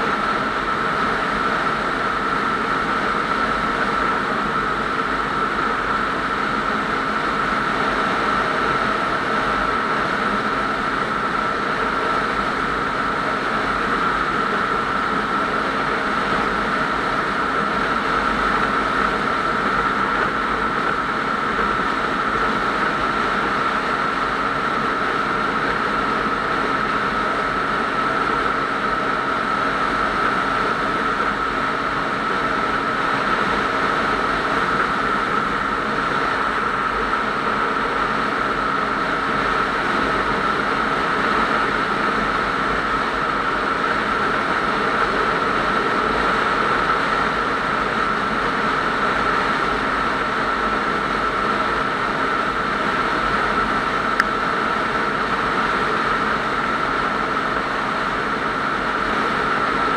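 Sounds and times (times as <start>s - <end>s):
steady high whine: 0.0s - 59.9s.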